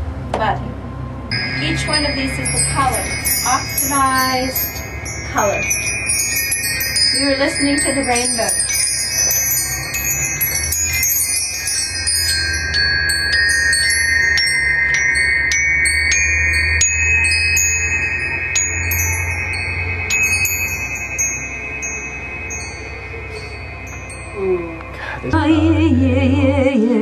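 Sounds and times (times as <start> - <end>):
low steady hum: 0.0 - 27.0
metal chimes ringing: 1.3 - 25.4.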